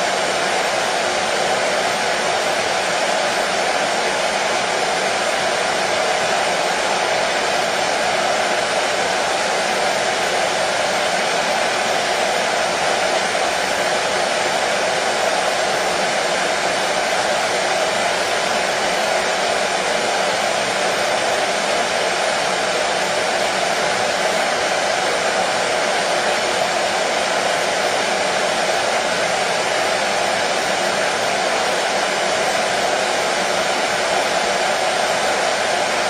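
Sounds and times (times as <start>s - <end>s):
hair dryer running: 0.0s - 36.0s.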